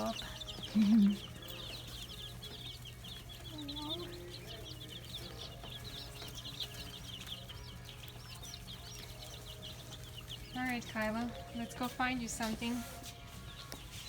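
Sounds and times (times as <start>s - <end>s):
chicks and ducklings peeping: 0.0s - 14.0s.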